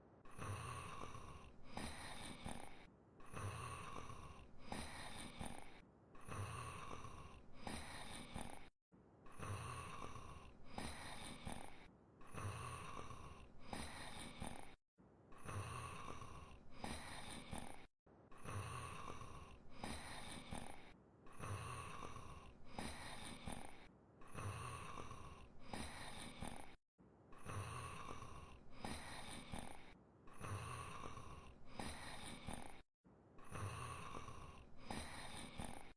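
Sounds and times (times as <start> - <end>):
slow rhythmic snoring: 0.0 - 35.9.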